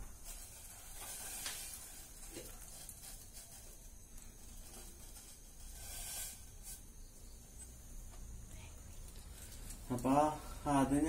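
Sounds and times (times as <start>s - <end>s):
gas stove burners hissing: 0.0s - 11.0s.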